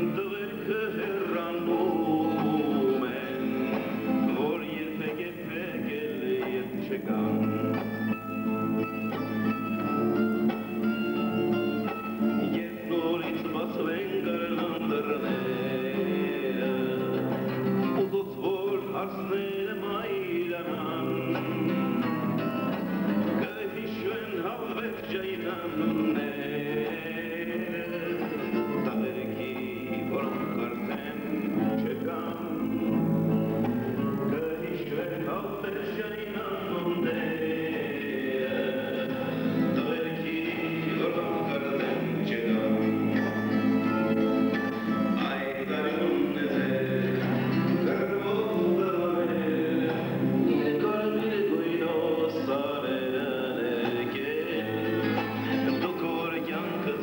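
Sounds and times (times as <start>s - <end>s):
acoustic guitars playing: 0.0s - 57.0s
man singing: 0.0s - 57.0s.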